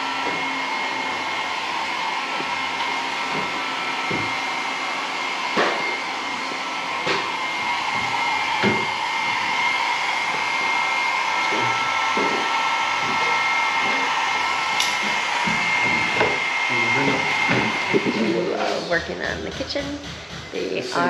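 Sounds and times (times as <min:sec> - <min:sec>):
whirring motor with high whine: 0:00.0 - 0:21.0.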